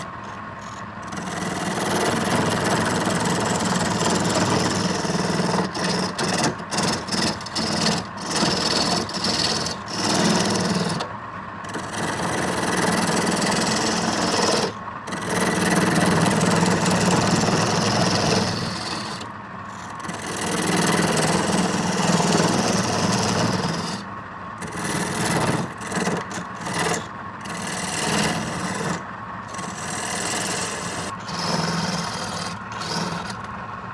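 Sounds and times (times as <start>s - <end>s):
lathe tool scraping wood: 0.0s - 11.1s, 11.7s - 33.6s.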